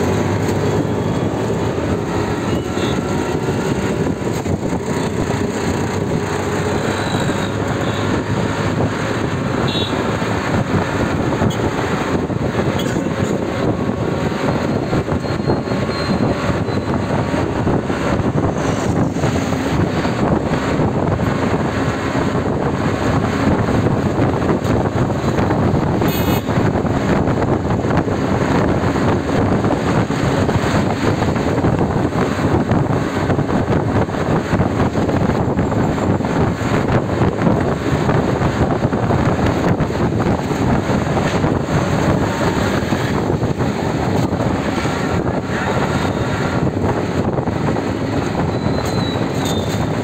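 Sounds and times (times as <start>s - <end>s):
vehicle rumbling on road: 0.0s - 50.0s
wind buffeting microphone: 0.0s - 50.0s.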